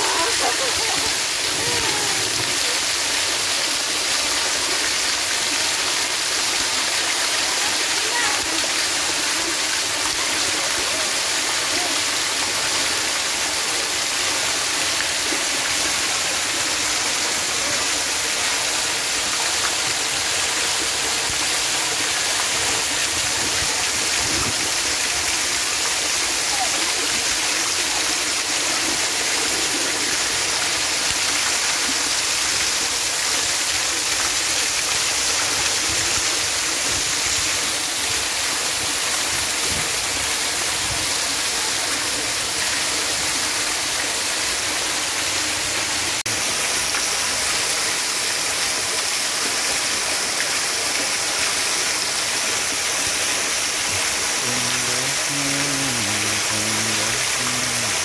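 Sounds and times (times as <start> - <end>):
fountain spray splashing into pool: 0.0 - 58.0.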